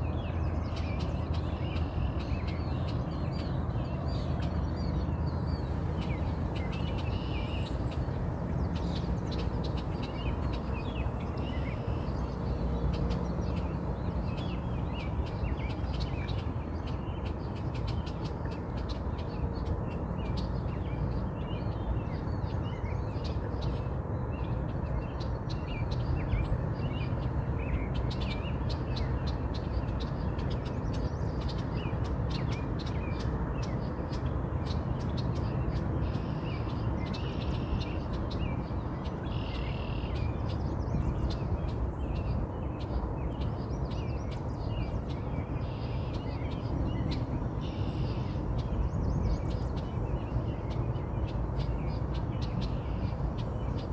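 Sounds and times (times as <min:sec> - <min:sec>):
low background rumble: 0:00.0 - 0:53.9
small birds chirping: 0:00.0 - 0:53.9.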